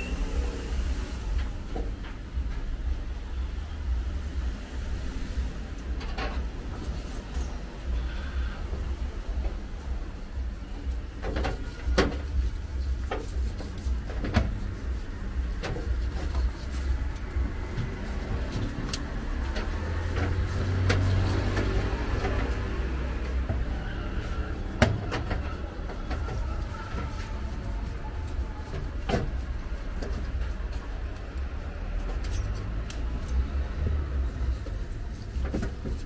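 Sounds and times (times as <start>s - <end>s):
steady low rumble: 0.0s - 36.0s.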